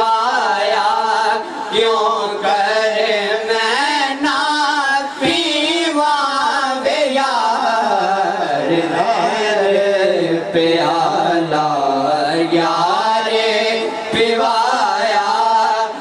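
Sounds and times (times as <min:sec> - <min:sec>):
men singing together: 0:00.0 - 0:16.0.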